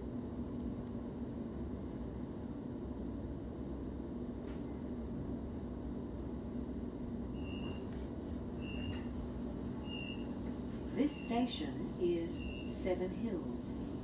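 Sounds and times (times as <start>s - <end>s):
train carriage hum: 0.0s - 14.0s.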